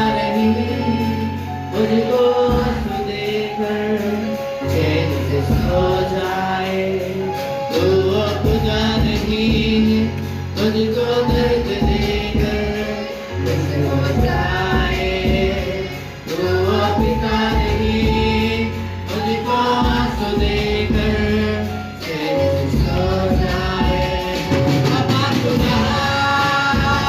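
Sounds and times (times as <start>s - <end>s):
group singing worship song: 0.0s - 27.0s
held bass notes: 0.0s - 27.0s
percussion beat: 0.0s - 27.0s.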